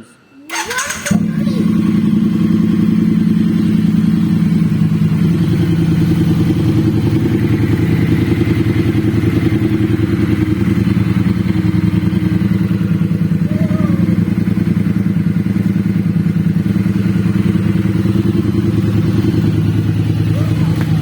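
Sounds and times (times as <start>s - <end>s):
motorcycle engine idling: 0.5s - 21.0s.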